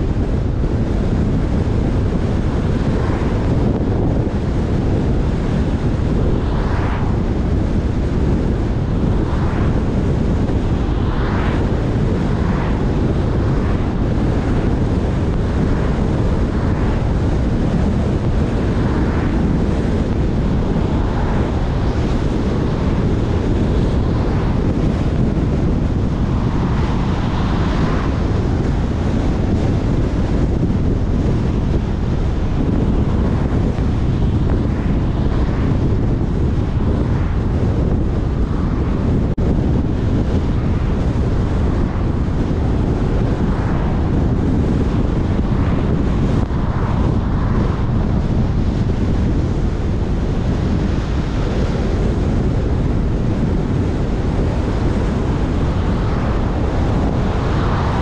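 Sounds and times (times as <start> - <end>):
wind rush over microphone: 0.0 - 58.0
car tyre noise: 0.1 - 58.0.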